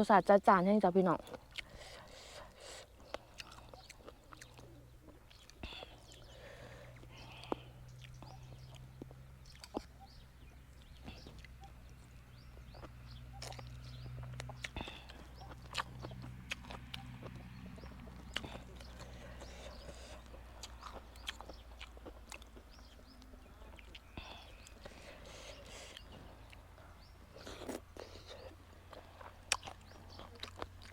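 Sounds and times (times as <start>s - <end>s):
person chewing crunchy food: 1.2s - 30.9s.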